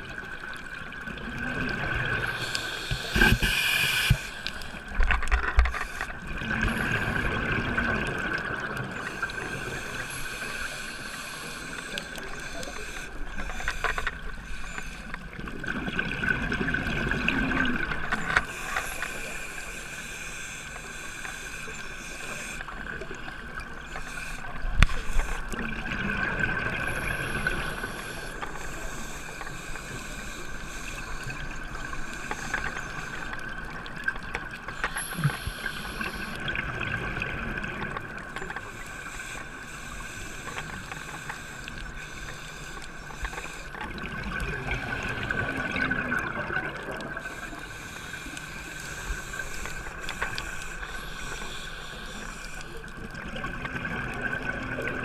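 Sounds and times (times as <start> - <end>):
steady hiss and hum: 0.0 - 55.0
underwater bubbles gurgling: 0.0 - 55.0.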